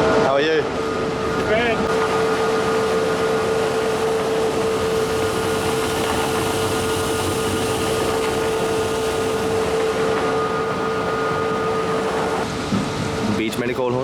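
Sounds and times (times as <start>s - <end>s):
machinery drone with whine: 0.0s - 13.4s.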